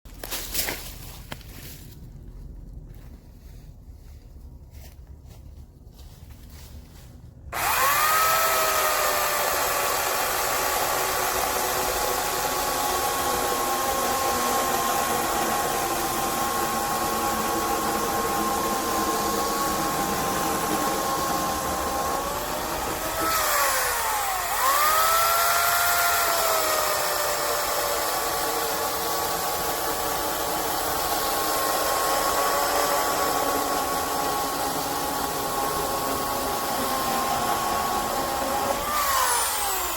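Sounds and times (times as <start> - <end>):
electric chainsaw motor whine: 7.5 - 39.9.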